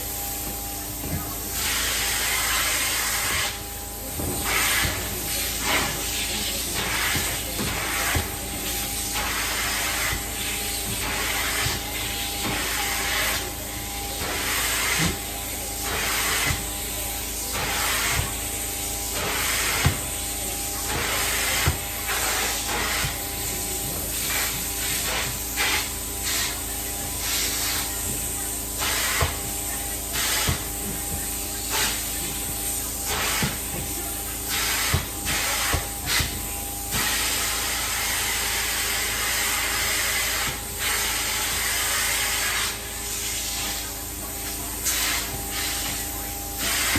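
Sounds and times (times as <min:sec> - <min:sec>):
cleaning wand spraying and sucking: 0:00.0 - 0:46.9.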